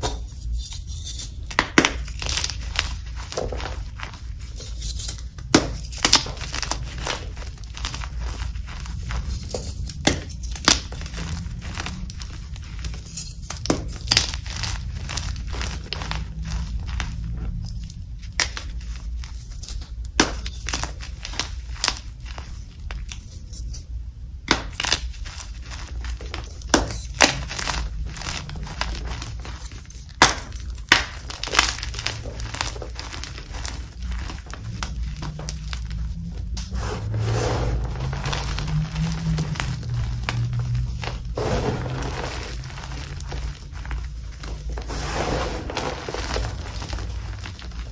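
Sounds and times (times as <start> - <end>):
chalk crunching and snapping: 0.0 - 23.8, 24.4 - 47.9
dry chalk crumbling: 0.0 - 47.9.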